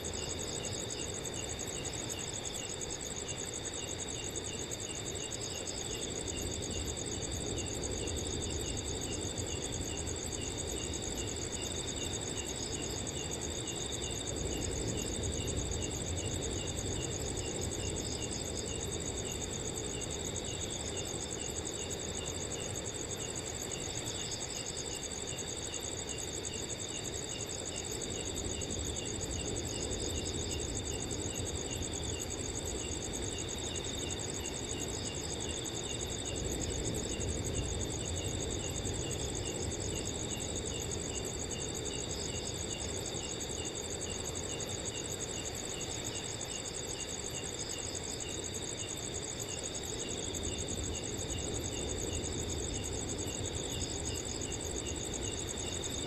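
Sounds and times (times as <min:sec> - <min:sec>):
crickets chirping: 0:00.0 - 0:56.0
low rush of wind: 0:00.0 - 0:56.0.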